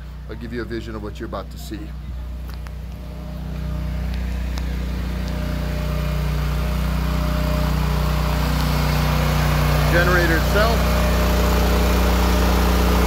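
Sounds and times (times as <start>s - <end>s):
generator engine humming: 0.0s - 13.0s.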